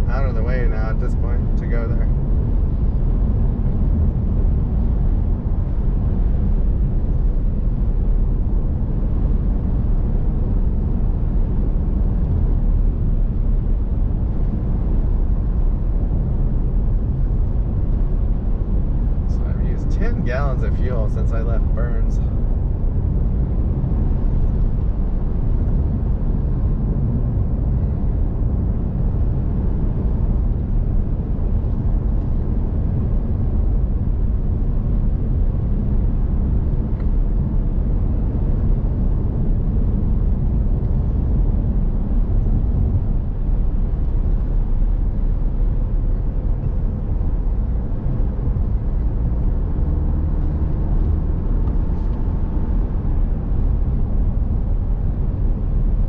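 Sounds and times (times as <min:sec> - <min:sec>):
car interior road drone: 0:00.0 - 0:56.0.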